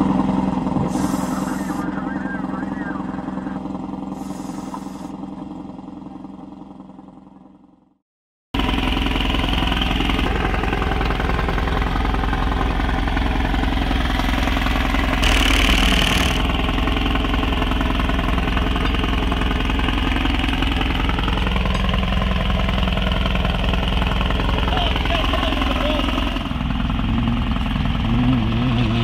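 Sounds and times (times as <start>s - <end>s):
engine idling: 0.0s - 8.0s, 8.6s - 29.0s.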